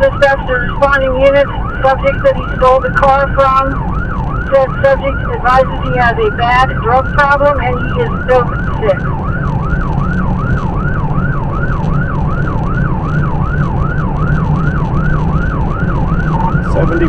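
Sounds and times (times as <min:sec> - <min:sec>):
car engine and road noise: 0:00.0 - 0:17.0
police siren yelping: 0:00.0 - 0:17.0.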